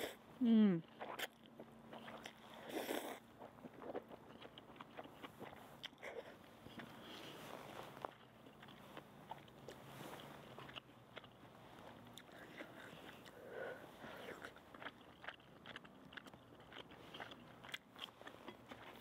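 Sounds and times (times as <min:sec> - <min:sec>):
chewing noodles: 0:00.9 - 0:19.0.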